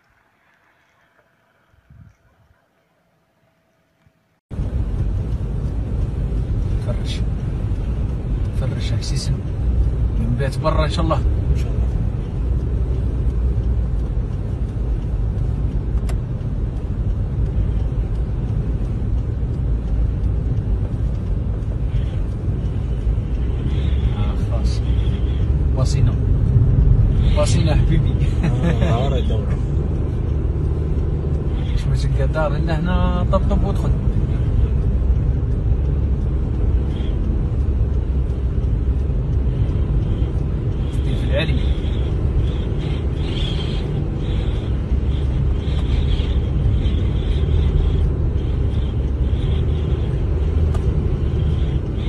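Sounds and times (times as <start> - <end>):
car driving rumble: 0.0 - 52.0.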